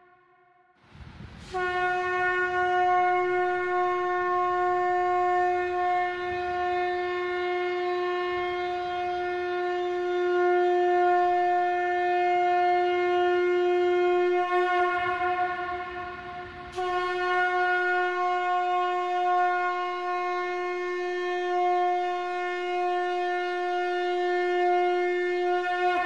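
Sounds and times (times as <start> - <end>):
conch shell blown: 0.0 - 0.8, 1.4 - 26.0.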